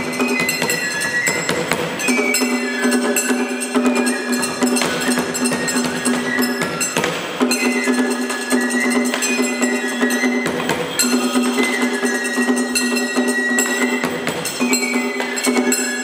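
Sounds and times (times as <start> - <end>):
sharp wooden percussion strokes: 0.0 - 16.0.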